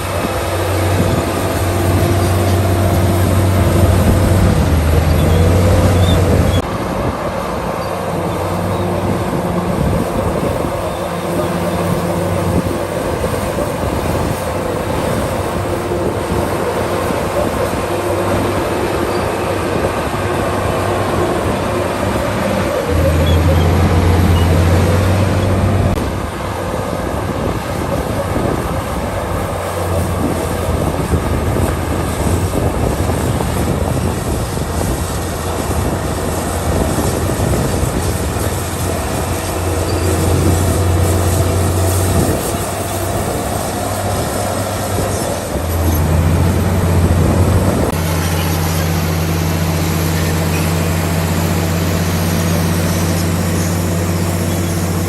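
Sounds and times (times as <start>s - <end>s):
bulldozer diesel engine: 0.0s - 55.0s
steel tracks clanking and squealing: 0.0s - 55.0s.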